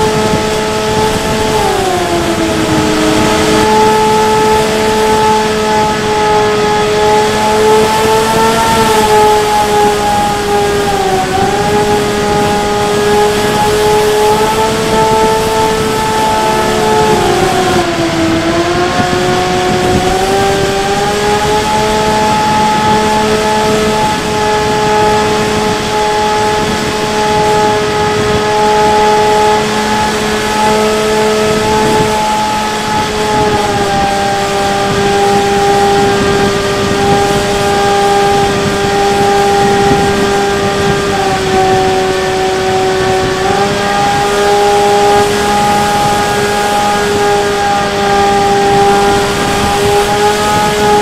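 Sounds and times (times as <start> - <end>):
electric motor and propeller: 0.0 - 51.0
wind rush over microphone: 0.0 - 51.0.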